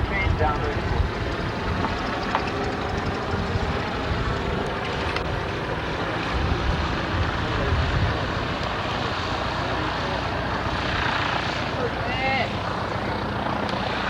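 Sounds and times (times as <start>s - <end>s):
propeller engine running: 0.0s - 14.0s.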